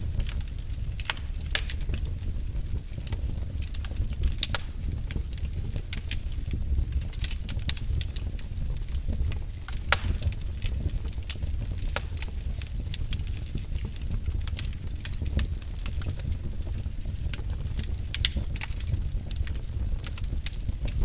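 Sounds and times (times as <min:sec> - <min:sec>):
fire flames rumbling: 0:00.0 - 0:21.0
wood fire crackling and popping: 0:00.0 - 0:21.0.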